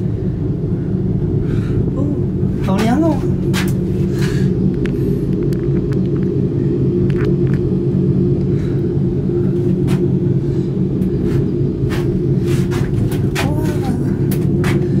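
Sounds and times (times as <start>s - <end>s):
gondola cabin drone and rumble: 0.0s - 15.0s.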